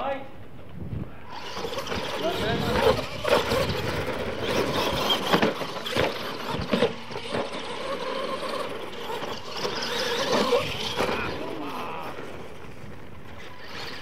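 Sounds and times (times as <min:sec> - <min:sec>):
tyres scrabbling on dirt: 0:00.7 - 0:14.0
toy truck motors revving: 0:01.2 - 0:14.0
trucks thumping on ramps: 0:01.4 - 0:14.0.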